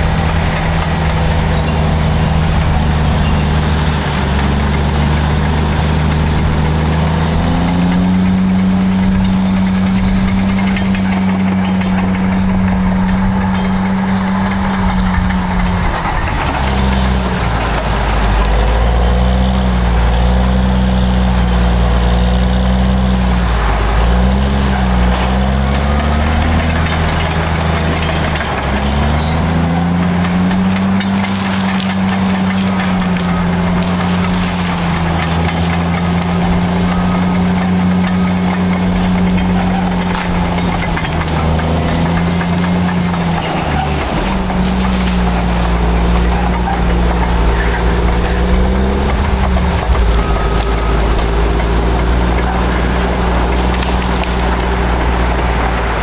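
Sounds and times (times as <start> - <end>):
bulldozer diesel engines working hard: 0.0 - 56.0.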